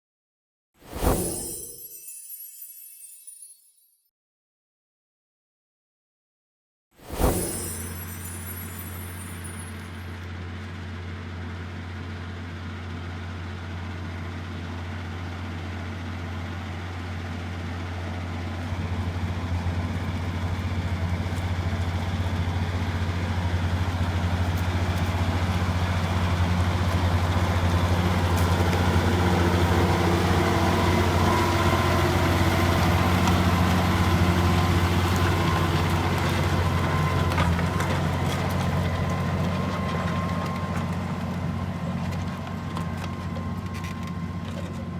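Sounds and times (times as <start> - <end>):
tractor diesel engine running: 8.0 - 44.9.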